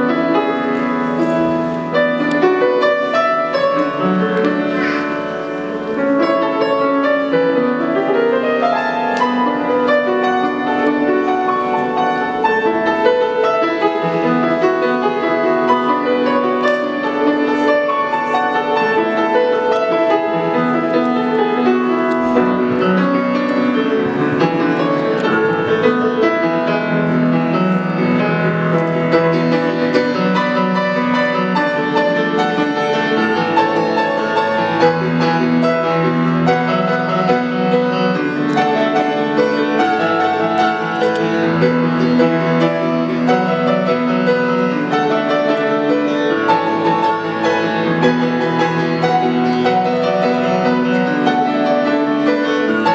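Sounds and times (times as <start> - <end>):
piano playing chords and melody: 0.0 - 52.9.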